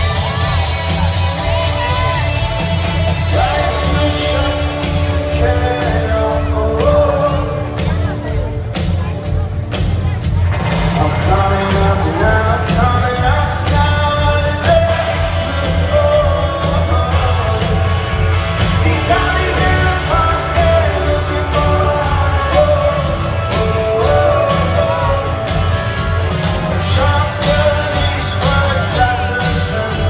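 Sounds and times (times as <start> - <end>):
person singing: 0.0 - 9.6, 10.6 - 30.0
live rock band playing: 0.0 - 30.0.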